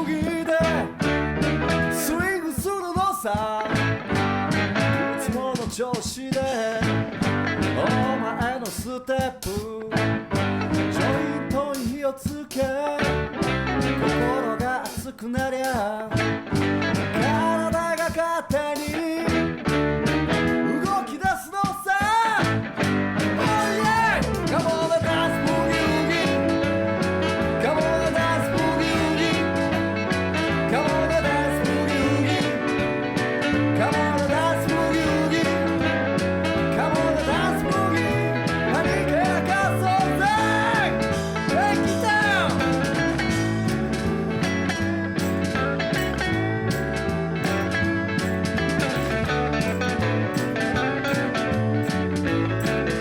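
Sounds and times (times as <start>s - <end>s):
rock song with guitar: 0.0s - 53.0s.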